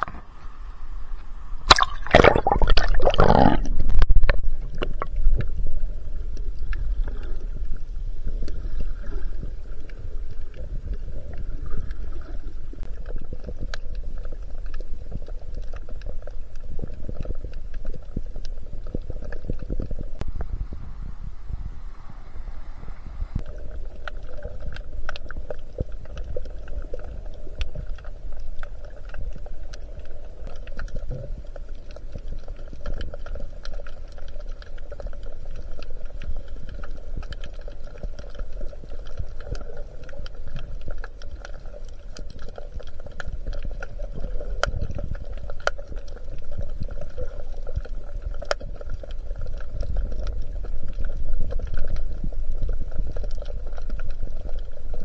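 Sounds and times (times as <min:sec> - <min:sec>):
sharp underwater clicks and crackles: 0:00.0 - 0:20.6, 0:23.3 - 0:55.0
muffled underwater water rumble: 0:00.0 - 0:55.0.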